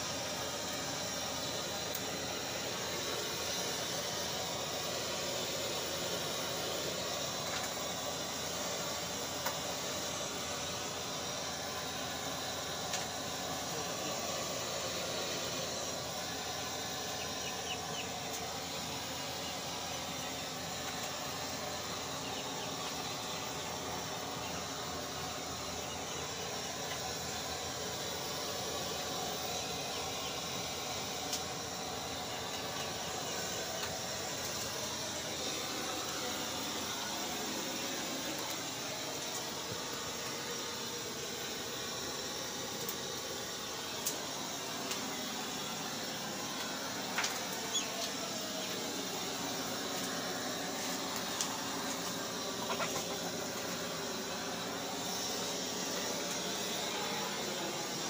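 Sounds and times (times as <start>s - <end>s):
steady hissing noise: 0.0s - 58.0s.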